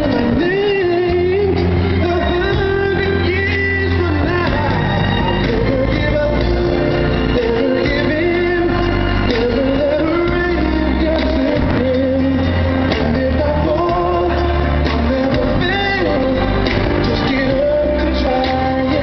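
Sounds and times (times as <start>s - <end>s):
band with bass line: 0.0s - 19.0s
person singing: 0.0s - 19.0s.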